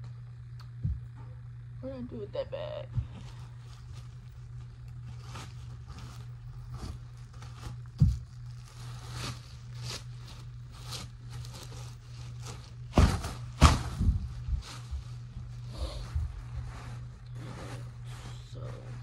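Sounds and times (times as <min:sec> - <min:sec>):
low hum: 0:00.0 - 0:19.0
plastic bag rustling: 0:03.0 - 0:19.0.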